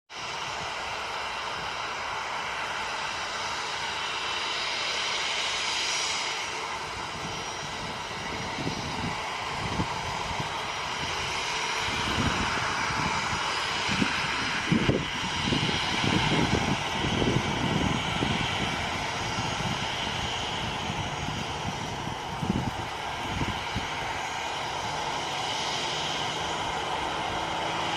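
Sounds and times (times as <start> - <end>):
jet engines running: 0.1 - 27.9.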